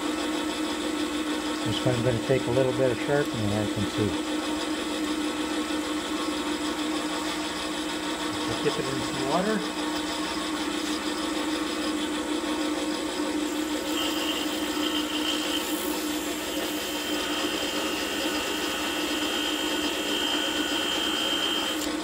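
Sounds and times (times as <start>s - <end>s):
grinder motor running: 0.0s - 22.0s
thin high grinding whine: 1.4s - 22.0s.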